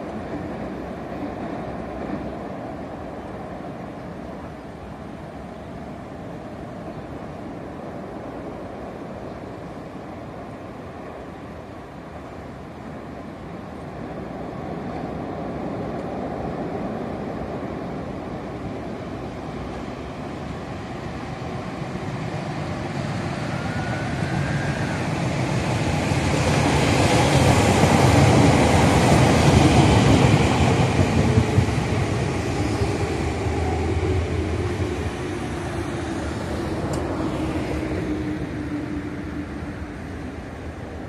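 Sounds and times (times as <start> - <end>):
electric trains passing: 0.0 - 41.0.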